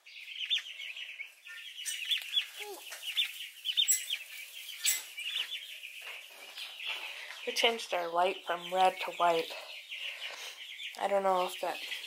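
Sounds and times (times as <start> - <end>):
turkey poults peeping: 0.0 - 12.0.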